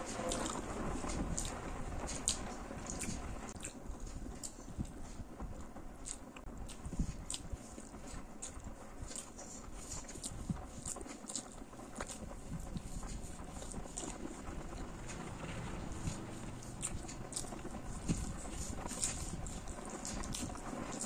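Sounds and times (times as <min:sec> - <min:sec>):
chewing with wet mouth clicks: 0:00.2 - 0:15.2, 0:16.1 - 0:21.0.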